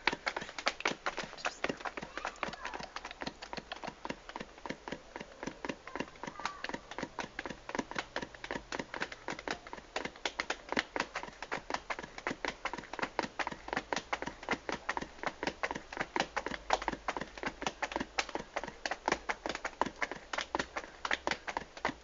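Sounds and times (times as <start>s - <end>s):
rapid even tapping: 0.0s - 22.0s.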